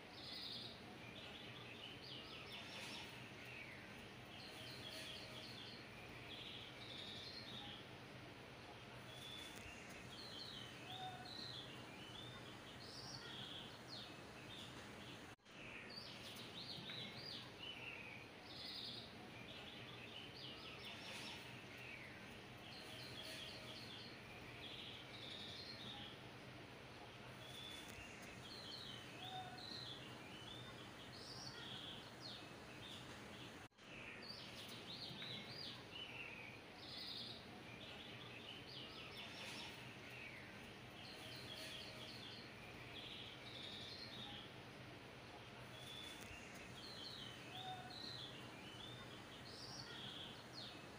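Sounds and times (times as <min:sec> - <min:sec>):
birds chirping and twittering: 0:00.0 - 0:50.9
steady low hiss: 0:00.0 - 0:50.9.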